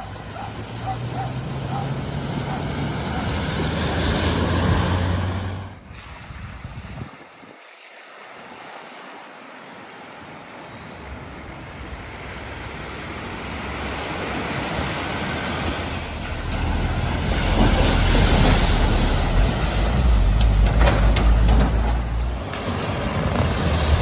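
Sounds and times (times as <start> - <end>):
vehicle splashing through water: 0.0 - 7.1, 8.3 - 24.0.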